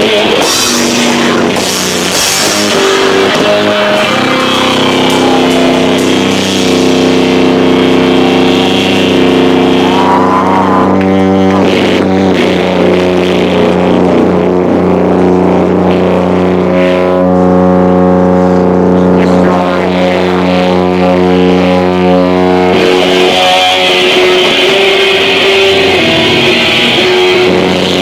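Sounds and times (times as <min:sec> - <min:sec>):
distorted rock band droning chord: 0:00.0 - 0:28.0.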